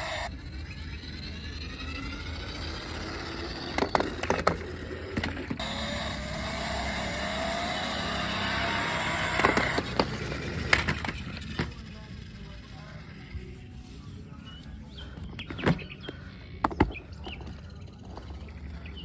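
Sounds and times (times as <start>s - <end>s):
toy car motor whirring: 0.0s - 19.0s.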